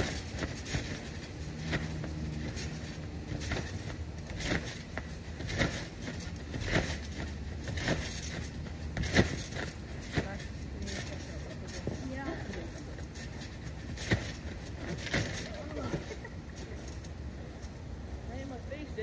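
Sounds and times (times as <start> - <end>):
feet thumping on trampoline: 0.0 - 17.0.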